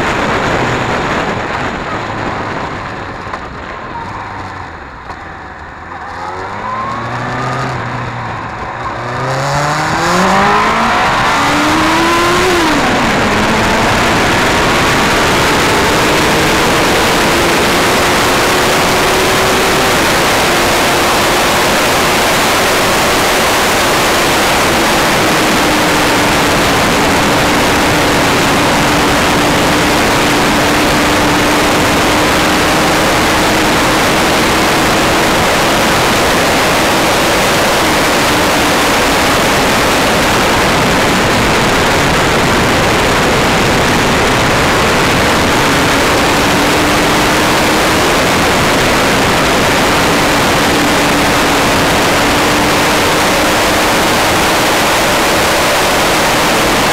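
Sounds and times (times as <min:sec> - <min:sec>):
wind noise on microphone: 0:00.0 - 0:56.9
faint motorcycle engine: 0:00.2 - 0:54.7.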